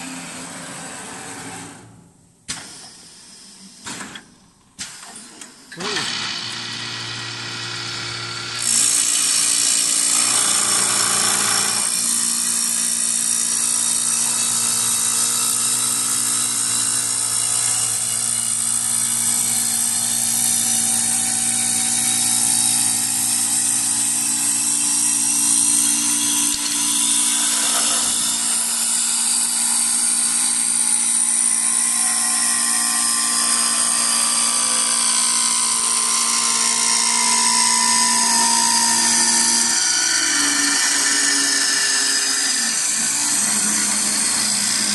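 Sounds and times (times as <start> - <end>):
lathe humming: 6.1 - 44.9.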